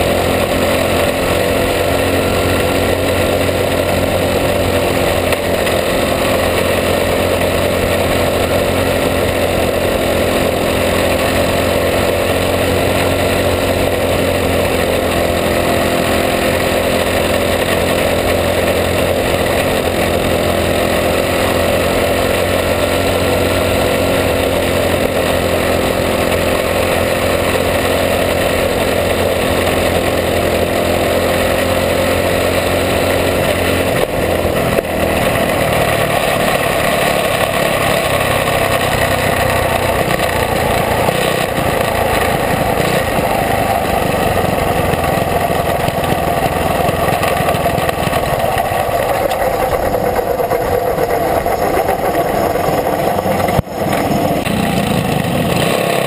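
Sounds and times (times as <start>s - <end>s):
kart engine running: 0.0s - 56.0s.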